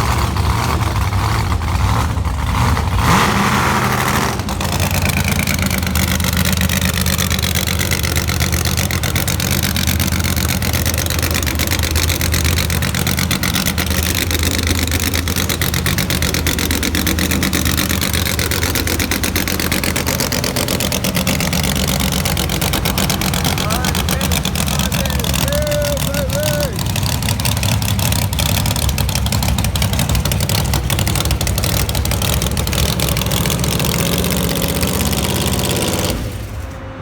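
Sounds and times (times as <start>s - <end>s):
monster truck engine running: 0.0s - 37.0s.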